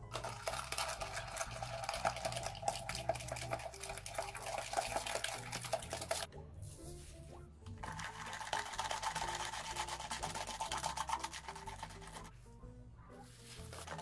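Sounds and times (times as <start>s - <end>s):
egg whites being whisked: 0.0s - 6.3s, 7.8s - 12.4s, 13.3s - 14.0s.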